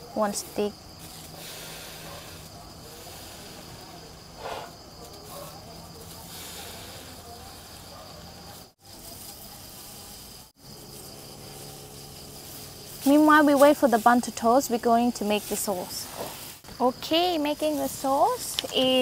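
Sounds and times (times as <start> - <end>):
crickets chirping: 0.0 - 19.0
buns sizzling in butter: 0.3 - 19.0
short rustle: 0.9 - 16.9.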